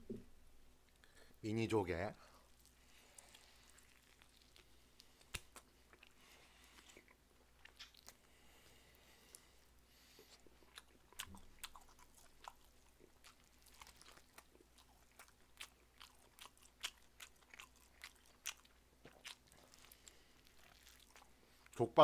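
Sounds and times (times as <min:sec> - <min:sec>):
person chewing meat: 0:02.3 - 0:21.8.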